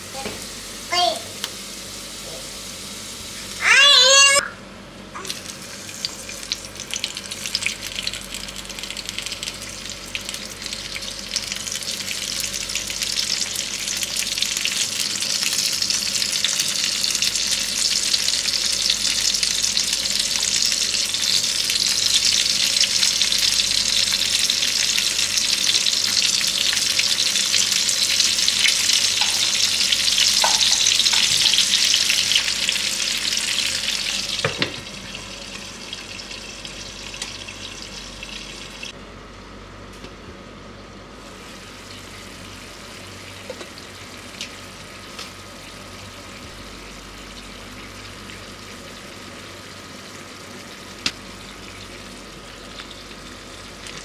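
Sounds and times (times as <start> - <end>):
food sizzling in hot oil: 0.0 - 4.4, 5.2 - 39.0, 41.2 - 54.0.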